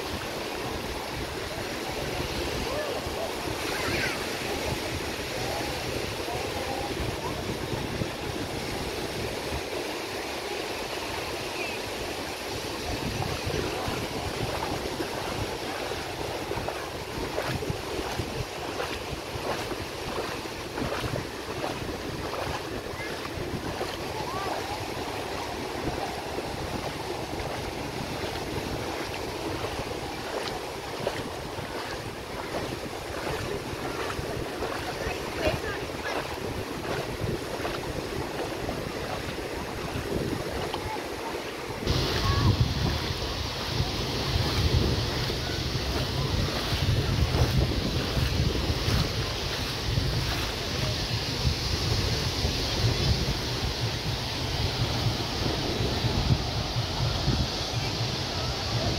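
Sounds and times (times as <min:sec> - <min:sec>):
surf washing onto beach: 0:00.0 - 0:58.9
wind rushing over microphone: 0:00.0 - 0:58.9.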